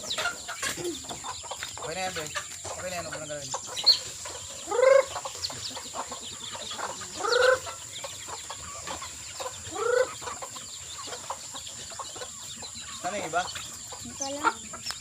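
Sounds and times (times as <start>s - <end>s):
chickens calling: 0.0s - 15.0s.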